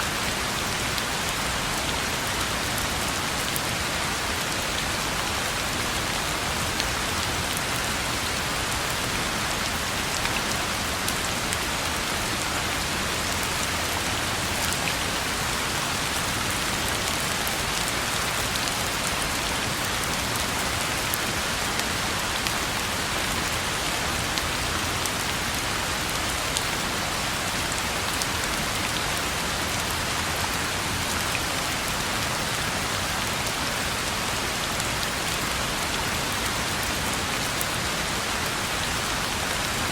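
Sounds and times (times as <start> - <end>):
rain falling on road: 0.0 - 39.9.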